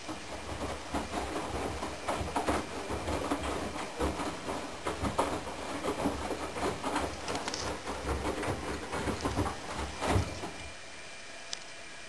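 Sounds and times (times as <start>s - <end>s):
washing machine drum tumbling: 0.0s - 10.8s
faint steady hiss: 0.0s - 12.0s.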